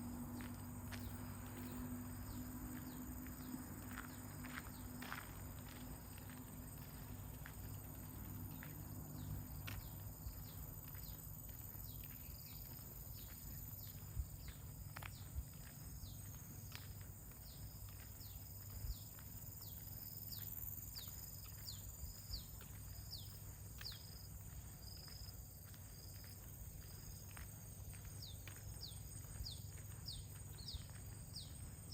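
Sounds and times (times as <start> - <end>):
footsteps on path: 0.0 - 31.9
high insect whine: 0.0 - 31.9.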